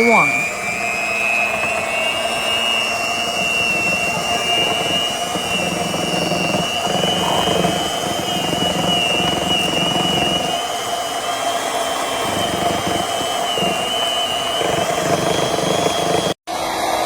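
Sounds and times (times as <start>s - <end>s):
electric hand mixer whining: 0.0s - 16.8s.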